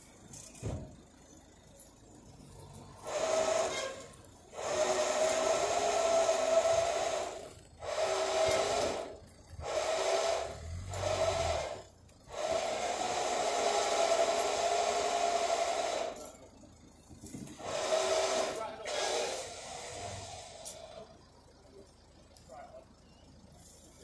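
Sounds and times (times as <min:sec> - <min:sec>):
small motor whining: 0:02.4 - 0:21.7.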